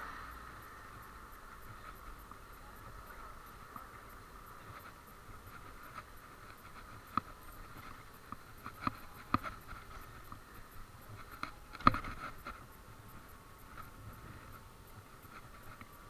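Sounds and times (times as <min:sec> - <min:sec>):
electric scooter hum: 0:00.0 - 0:16.0.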